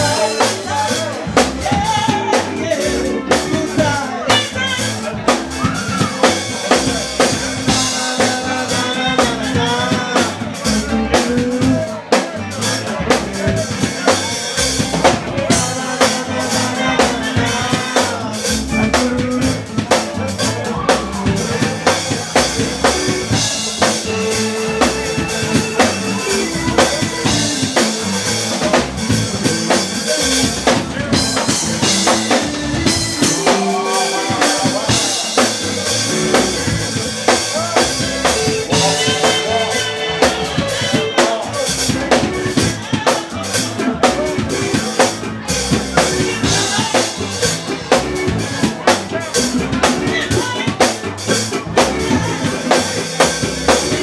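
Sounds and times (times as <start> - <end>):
drum kit beat: 0.0 - 54.0
live soul band playing: 0.0 - 54.0.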